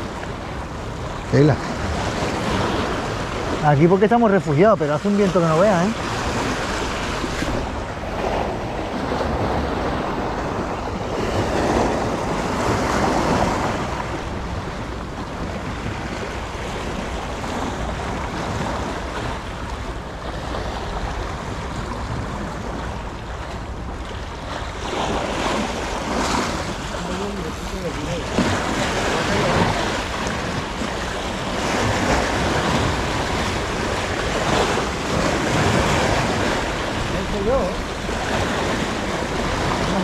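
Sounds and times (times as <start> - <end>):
sea surf washing onto shore: 0.0 - 40.0
wind on microphone: 0.0 - 40.0.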